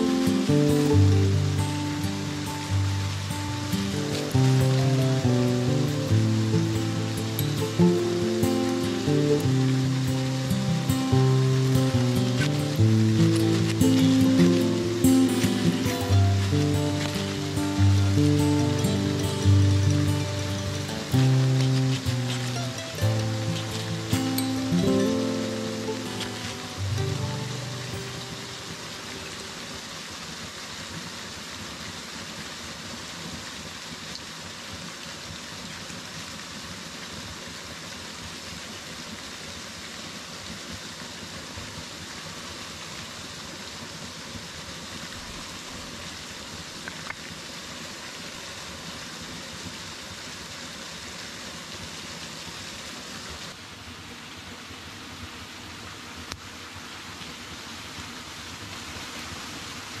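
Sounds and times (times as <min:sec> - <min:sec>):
waterfall falling onto rocks: 0:00.0 - 1:00.0.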